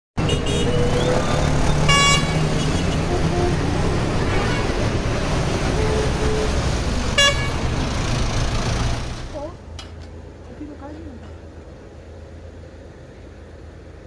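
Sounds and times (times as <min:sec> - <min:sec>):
low traffic rumble: 0:00.2 - 0:14.0.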